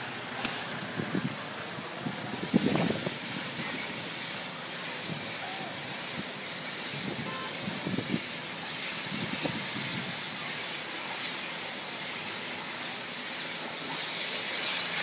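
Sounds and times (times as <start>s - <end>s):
large fire roaring: 0.0s - 15.0s.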